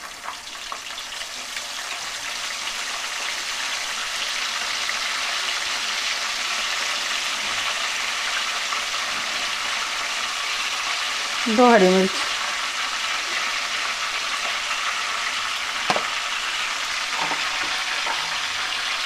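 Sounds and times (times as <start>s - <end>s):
garlic leaves sizzling in hot ghee: 0.0s - 19.0s.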